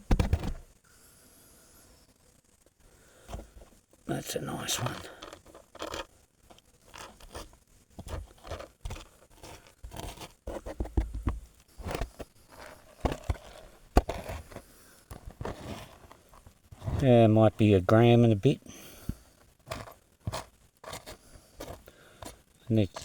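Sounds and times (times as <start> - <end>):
gravel scraping in a pan: 3.1 - 11.1, 11.7 - 23.0.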